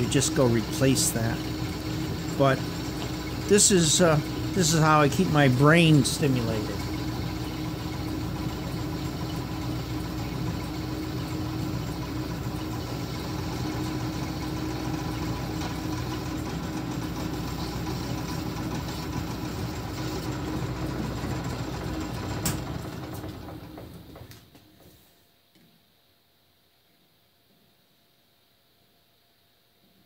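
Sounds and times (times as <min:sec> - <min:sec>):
metal lathe motor humming: 0:00.0 - 0:24.2.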